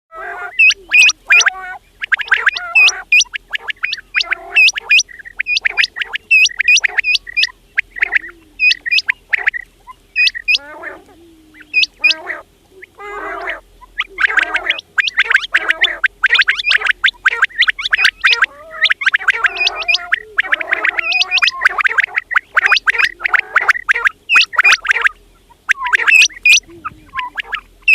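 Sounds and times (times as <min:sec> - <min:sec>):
harsh rasping bird calls: 0:00.1 - 0:27.9
quails chirping: 0:00.1 - 0:27.9.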